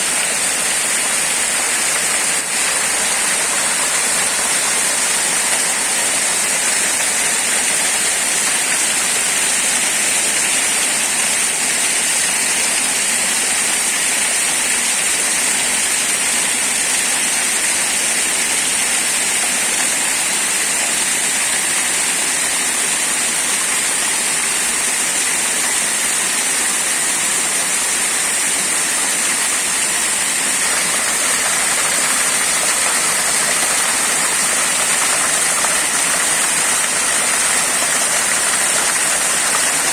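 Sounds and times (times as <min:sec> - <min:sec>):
waterfall rushing: 0:00.0 - 0:12.0, 0:17.7 - 0:39.9.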